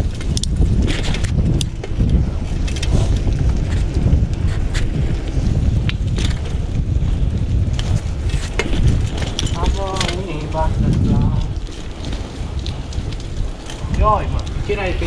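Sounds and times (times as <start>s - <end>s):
bicycle clicks and rattles: 0.0s - 15.0s
wind buffeting microphone: 0.0s - 15.0s.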